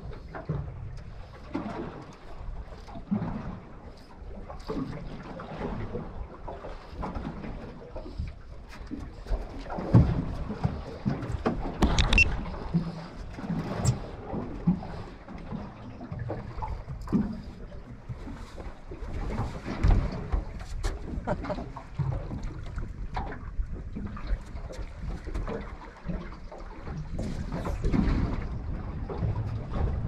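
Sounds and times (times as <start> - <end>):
water sloshing against boat: 0.0 - 30.0.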